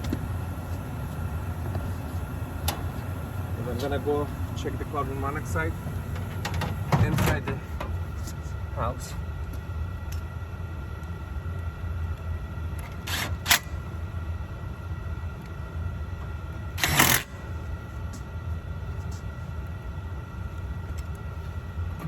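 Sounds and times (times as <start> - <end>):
steady low machine hum: 0.0 - 22.0.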